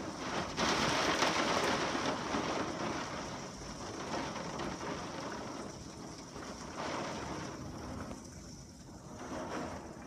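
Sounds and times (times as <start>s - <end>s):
heavy rain streaming off a roof: 0.0s - 10.0s.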